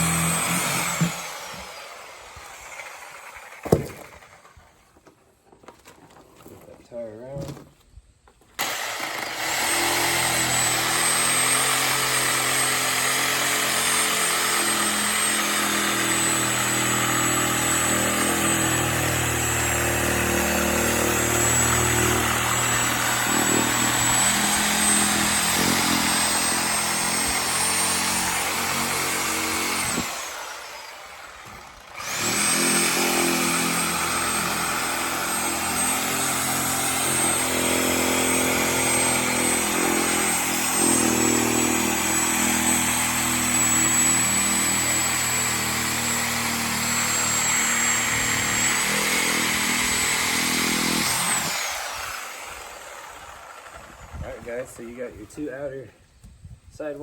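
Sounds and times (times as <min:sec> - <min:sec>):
reciprocating saw cutting rubber: 0:00.0 - 0:04.8, 0:08.6 - 0:55.4.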